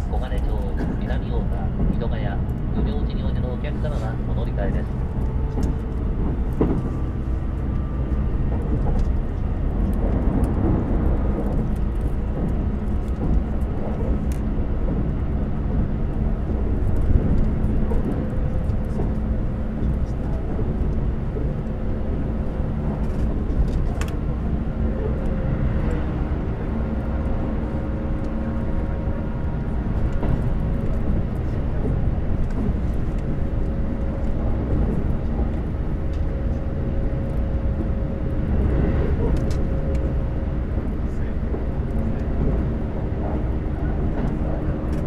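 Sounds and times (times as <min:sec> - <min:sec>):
rail clicks: 0:00.0 - 0:45.0
train motor hum: 0:00.0 - 0:45.0
train wheels rumbling on track: 0:00.0 - 0:45.0.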